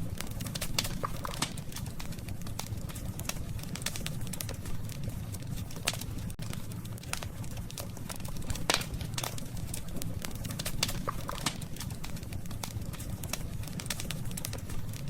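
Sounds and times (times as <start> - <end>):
burning wood crackling and popping: 0.0 - 15.0
low rush of flame: 0.0 - 15.0.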